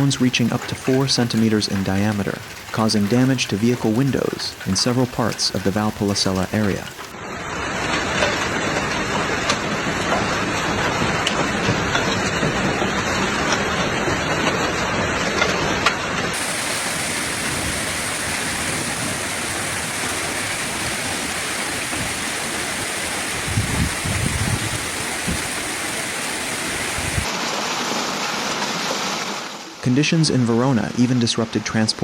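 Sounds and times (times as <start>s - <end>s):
hail striking hard surfaces: 0.0s - 7.1s, 7.8s - 29.0s
heavy rain hiss: 0.0s - 11.6s, 16.2s - 32.0s.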